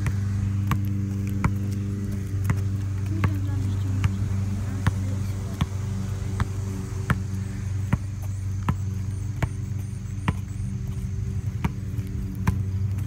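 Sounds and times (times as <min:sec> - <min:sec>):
sharp taps on pavement: 0:00.0 - 0:13.0
steady low hum: 0:00.0 - 0:13.0.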